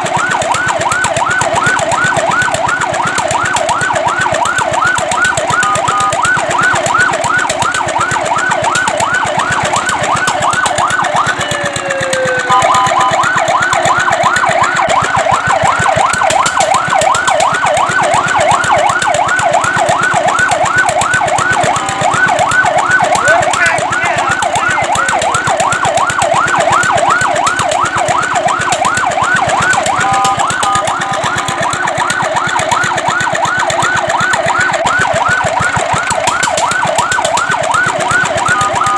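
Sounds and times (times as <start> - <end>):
fire truck siren yelping: 0.0 - 38.9.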